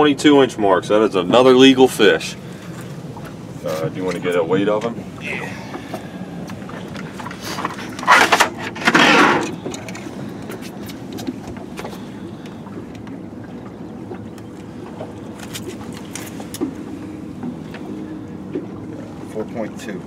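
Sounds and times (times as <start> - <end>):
boat low hum: 0.0 - 20.0.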